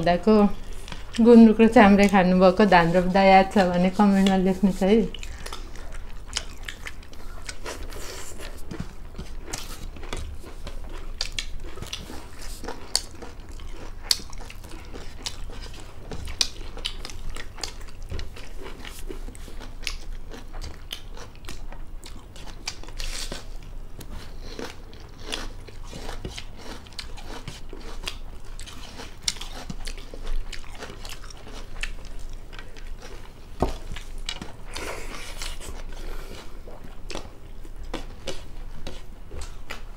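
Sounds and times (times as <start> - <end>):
crunchy bites and chewing: 5.2 - 39.9.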